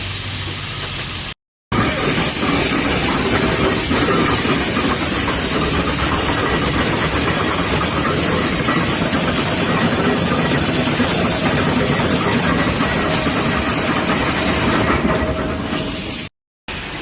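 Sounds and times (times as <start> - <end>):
hiss: 0.0 - 17.0
heavy machinery engine running: 1.1 - 16.3.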